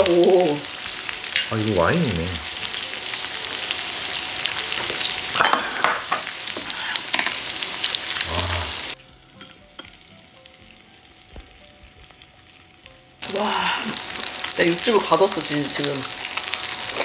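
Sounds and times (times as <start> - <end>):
meat sizzling on a grill: 0.0 - 17.0.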